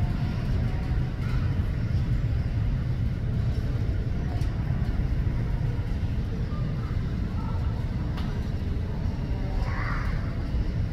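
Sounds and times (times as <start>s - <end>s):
jet airliner landing rumble: 0.0s - 10.9s.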